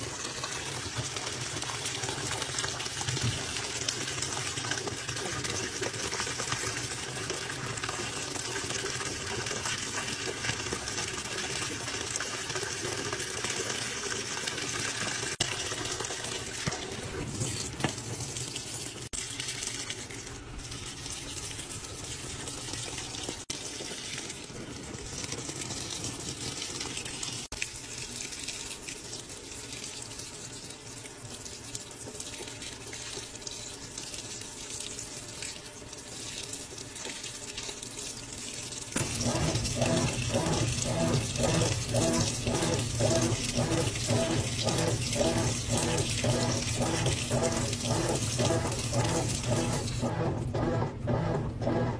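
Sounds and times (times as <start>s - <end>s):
water pouring into washing machine: 0.0s - 51.9s.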